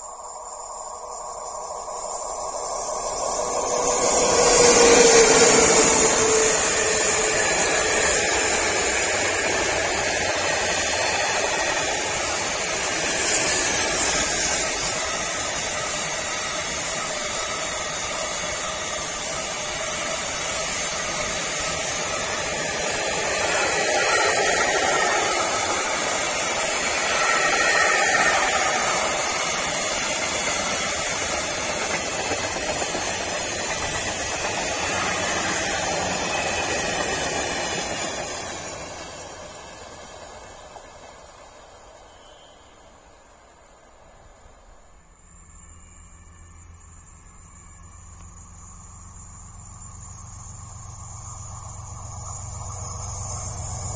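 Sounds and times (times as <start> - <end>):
freight train rolling past: 0.0 - 53.9
wheels rushing on rail: 0.0 - 53.9.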